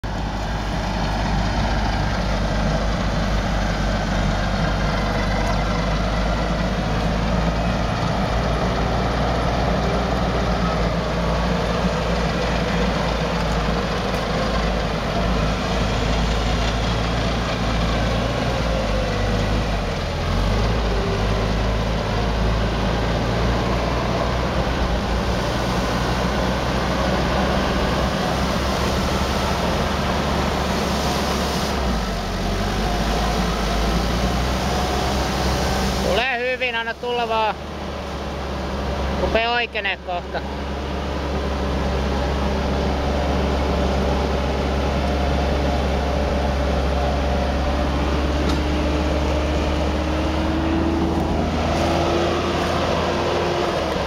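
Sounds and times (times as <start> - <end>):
vehicle engine running at low revs: 0.0 - 54.0.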